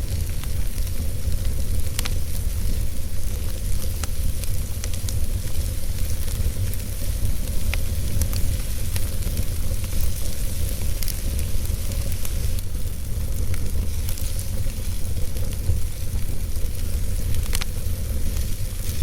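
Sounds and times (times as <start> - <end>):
fire rumble and hiss: 0.0 - 19.0
wood fire crackling and popping: 0.0 - 19.0.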